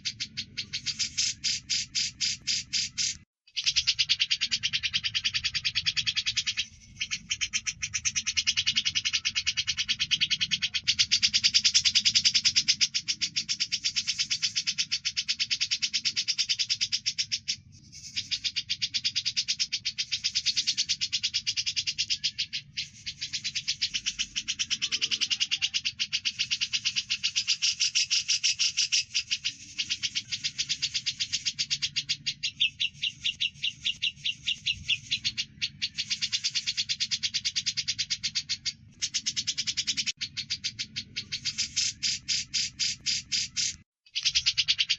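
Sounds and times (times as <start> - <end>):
birds chattering chirps: 0.0 - 44.9.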